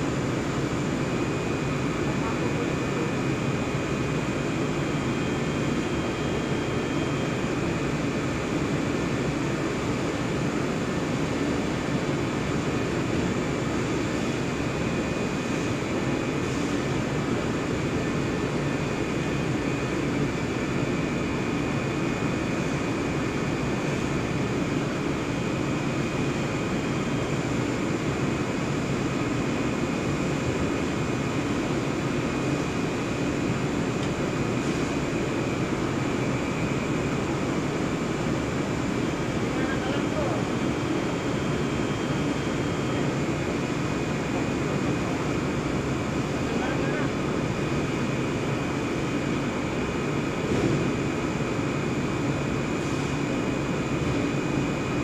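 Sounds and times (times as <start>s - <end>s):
faint steady whines: 0.0s - 55.0s.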